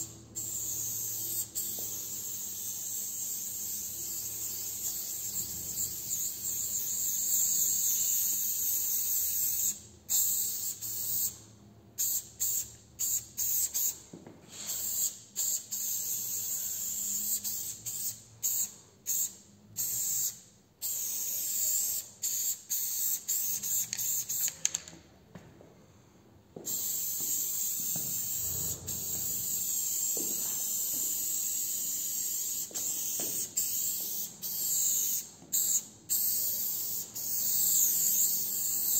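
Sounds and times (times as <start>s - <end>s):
spray paint can hissing: 0.0s - 11.4s, 12.0s - 14.0s, 14.6s - 24.8s, 26.7s - 38.9s.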